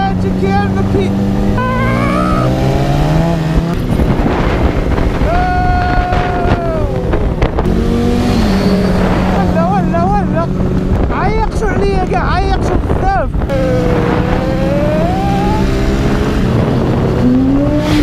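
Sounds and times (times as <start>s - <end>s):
motorcycle engine accelerating: 0.0s - 18.0s
wind rush: 0.0s - 18.0s.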